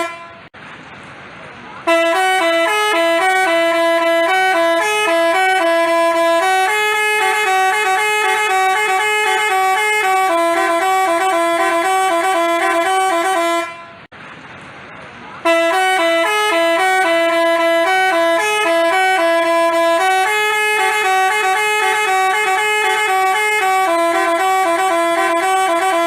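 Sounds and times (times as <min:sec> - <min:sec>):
bus horn melody: 0:00.0 - 0:00.5, 0:01.8 - 0:14.1, 0:15.4 - 0:26.0.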